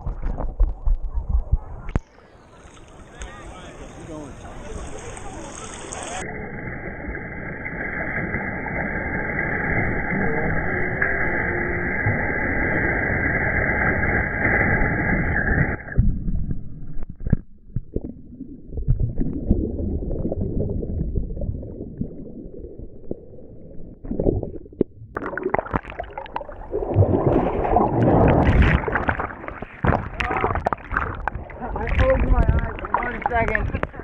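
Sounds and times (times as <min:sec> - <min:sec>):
muffled surf churning underwater: 0:00.0 - 0:34.0
water splashing: 0:01.8 - 0:12.2, 0:17.0 - 0:34.0.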